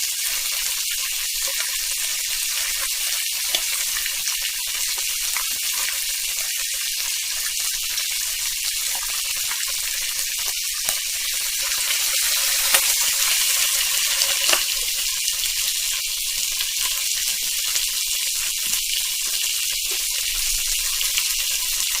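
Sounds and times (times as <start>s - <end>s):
meat sizzling on a grill: 0.0s - 22.0s.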